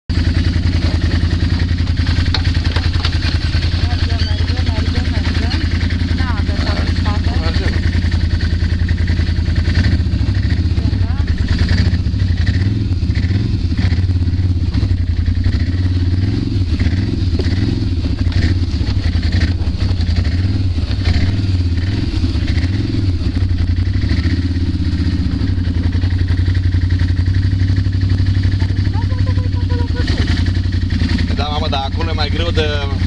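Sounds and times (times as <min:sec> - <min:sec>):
quad bike engine running: 0:00.1 - 0:33.0.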